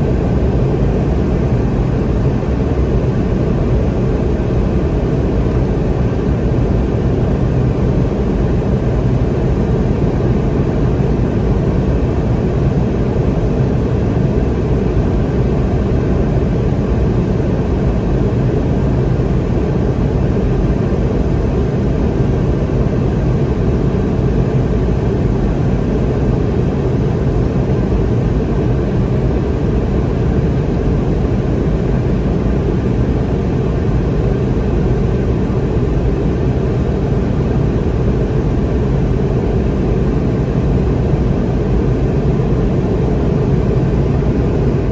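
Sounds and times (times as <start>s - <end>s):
jet engines low rumble: 0.0s - 44.9s.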